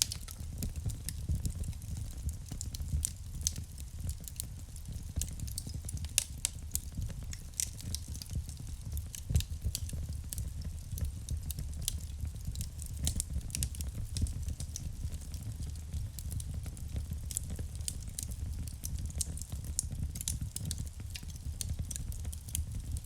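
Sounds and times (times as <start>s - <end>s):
fire crackling and popping: 0.0s - 23.0s
low rumble of flame: 0.0s - 23.0s.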